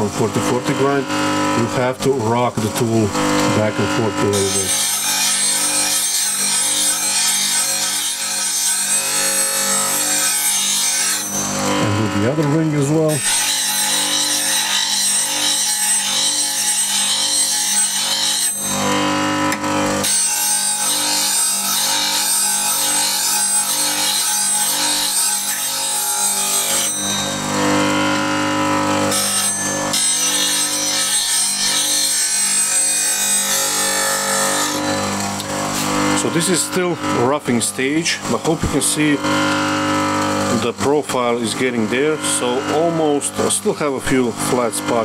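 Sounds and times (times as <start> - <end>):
bench grinder motor humming: 0.0 - 45.0.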